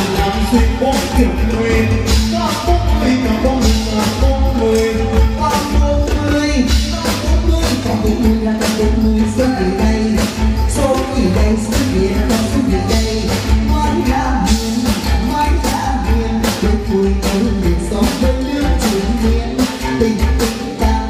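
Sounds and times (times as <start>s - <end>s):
live band music: 0.0s - 21.0s
person singing into a microphone: 0.0s - 21.0s.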